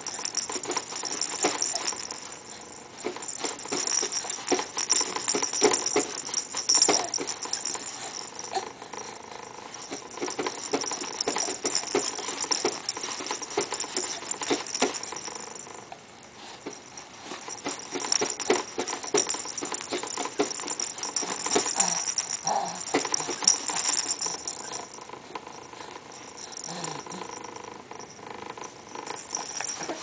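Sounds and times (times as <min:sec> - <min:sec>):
toy ball rattling and jingling: 0:00.0 - 0:30.0.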